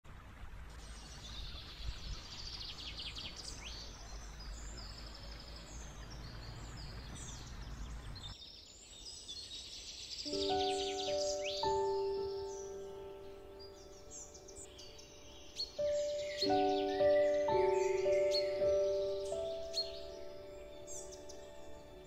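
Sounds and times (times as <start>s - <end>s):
stream running over stones: 0.0s - 22.0s
songbirds chirping and trilling: 0.7s - 22.0s.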